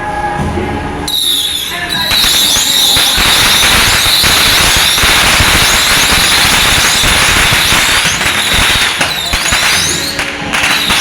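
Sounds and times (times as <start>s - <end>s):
firecrackers crackling: 1.1s - 11.0s.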